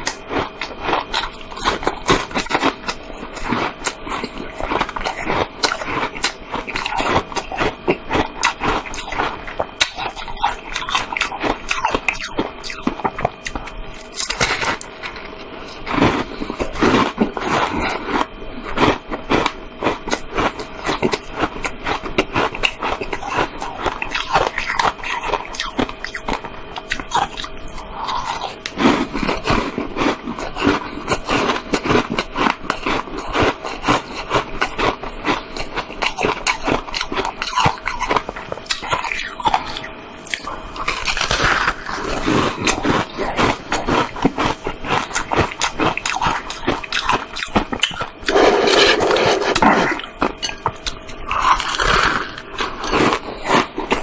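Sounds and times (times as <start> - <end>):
crunching and chewing ice: 0.0 - 54.0.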